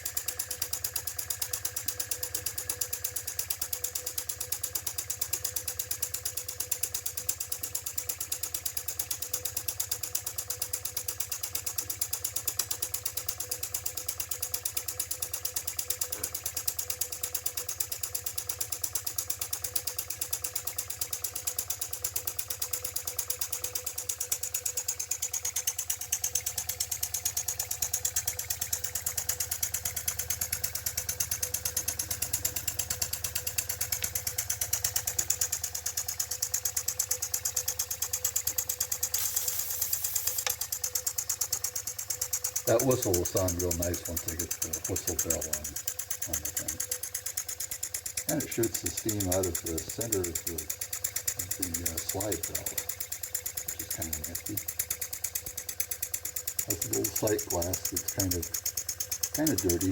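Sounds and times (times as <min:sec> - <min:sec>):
toy steam engine clicking: 0:00.0 - 0:59.9.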